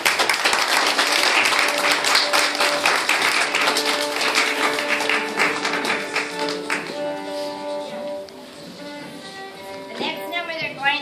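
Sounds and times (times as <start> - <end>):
fiddle folk dance tune: 0.0 - 11.0.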